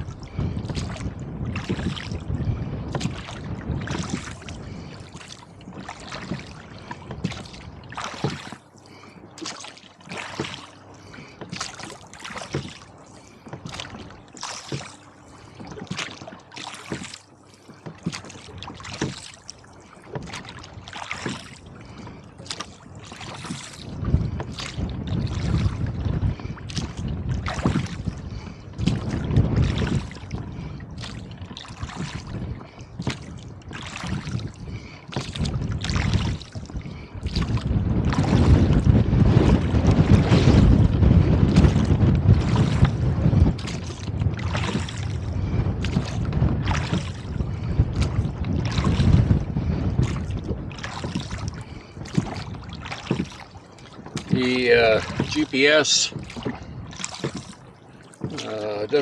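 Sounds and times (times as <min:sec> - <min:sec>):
water splashing against boat: 0:00.0 - 0:59.0
wind buffeting microphone: 0:00.0 - 0:59.0.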